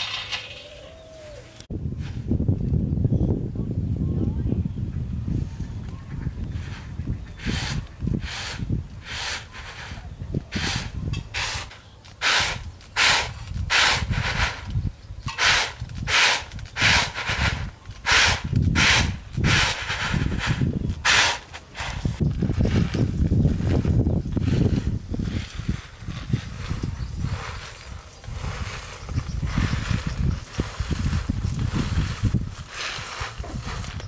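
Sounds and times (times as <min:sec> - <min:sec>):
peanuts rubbed by hand: 0:06.5 - 0:34.0.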